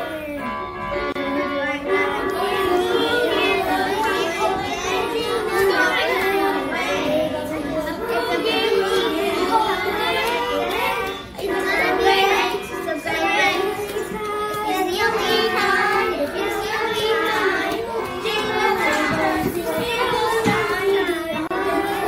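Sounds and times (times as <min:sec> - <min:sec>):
backing music track: 0:00.0 - 0:22.0
children singing together: 0:00.0 - 0:22.0.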